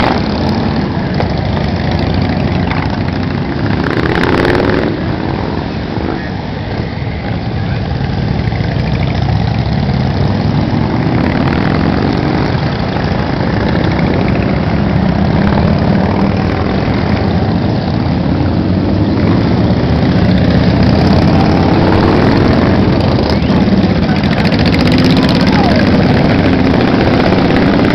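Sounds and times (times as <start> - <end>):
motorcycles riding past: 0.0 - 27.9.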